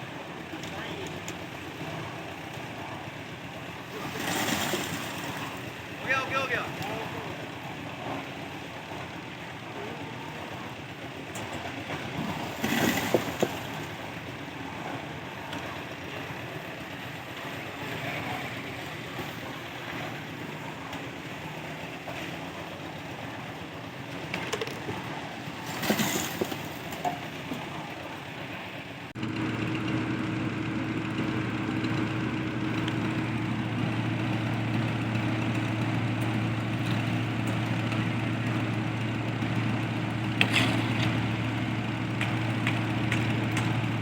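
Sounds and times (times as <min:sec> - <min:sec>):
engine running: 0:00.0 - 0:44.0.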